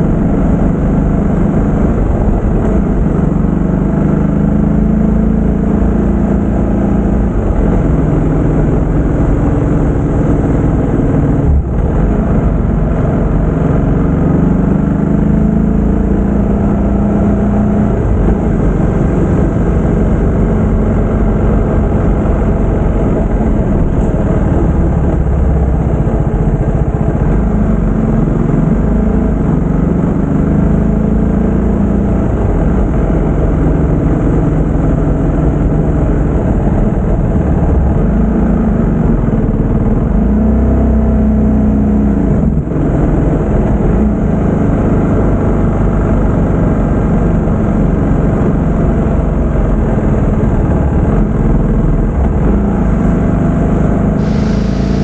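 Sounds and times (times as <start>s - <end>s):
motorcycle engine revving: 0.0s - 55.0s
road and wind noise: 0.0s - 55.0s.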